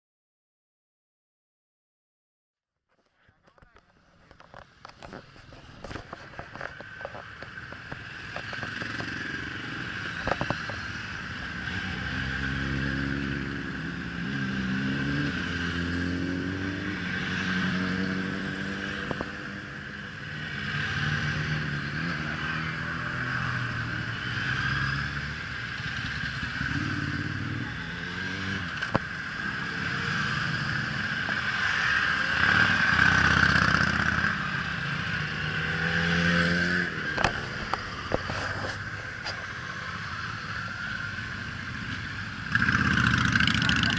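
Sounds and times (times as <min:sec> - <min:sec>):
motorcycles passing by: 0:03.8 - 0:43.9.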